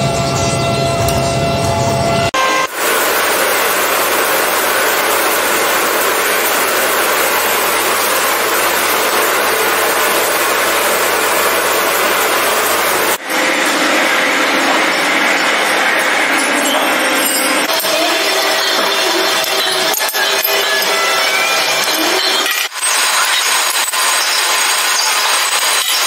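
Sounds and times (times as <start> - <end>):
metalworking power tool running: 0.0 - 26.0.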